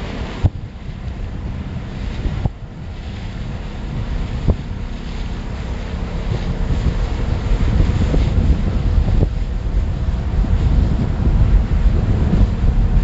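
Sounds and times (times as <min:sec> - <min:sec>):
outboard motor humming: 0:00.0 - 0:13.0
water noise: 0:00.0 - 0:13.0
wind buffeting microphone: 0:00.0 - 0:13.0.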